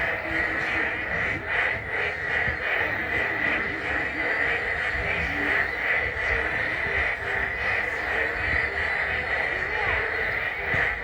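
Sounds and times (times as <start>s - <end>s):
frogs trilling in chorus: 0.0s - 11.0s
low frog croaks: 0.0s - 11.0s.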